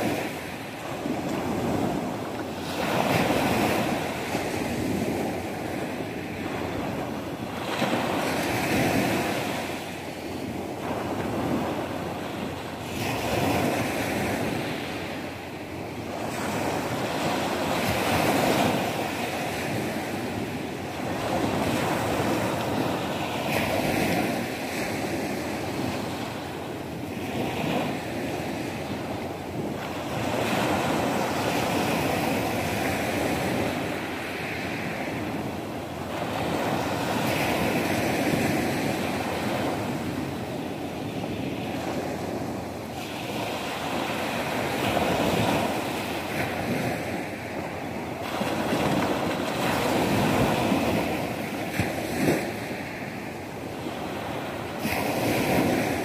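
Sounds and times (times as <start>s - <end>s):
small waves breaking on shore: 0.0s - 56.0s.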